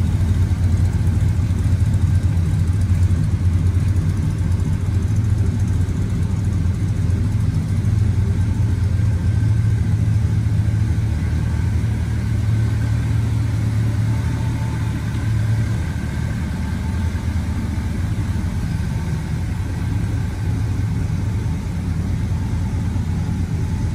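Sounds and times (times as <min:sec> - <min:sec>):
pickup truck engine idling: 0:00.0 - 0:23.9.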